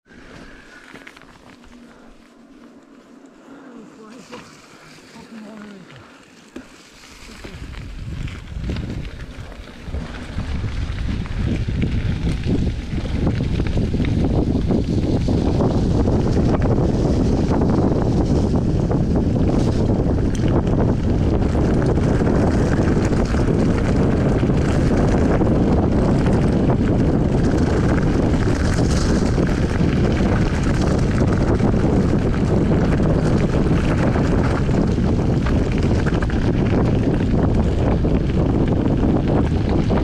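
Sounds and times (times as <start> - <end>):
bike tyres on gravel: 0.0 - 40.0
wind rush on microphone: 7.0 - 40.0.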